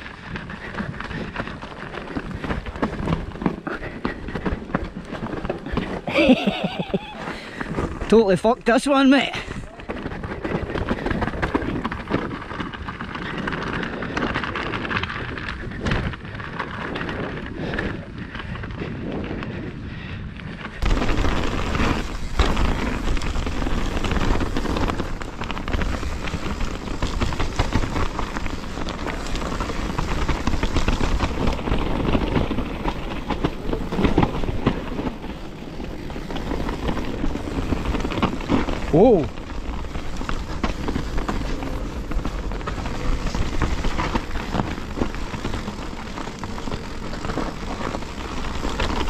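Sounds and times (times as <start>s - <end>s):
bike tyres on dirt and stones: 0.0s - 49.0s.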